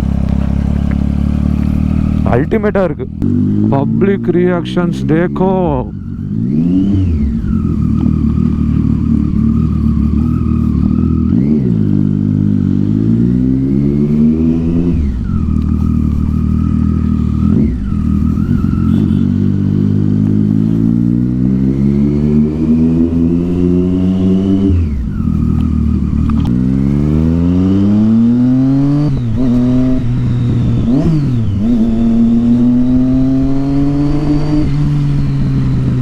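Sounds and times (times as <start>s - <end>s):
motorcycle engine accelerating: 0.0s - 36.0s.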